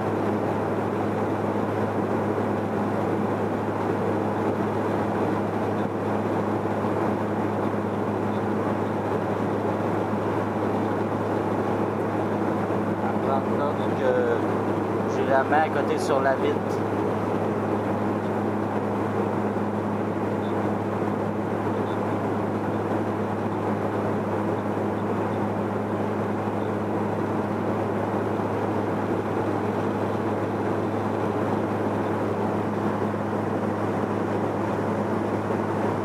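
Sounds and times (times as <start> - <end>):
constant low hum: 0.0 - 36.0
jet engines and airflow rushing: 0.0 - 36.0.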